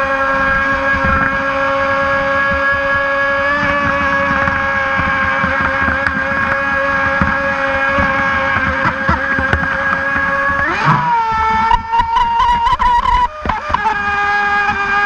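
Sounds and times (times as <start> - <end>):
high-pitched electric motor whine: 0.0 - 15.0.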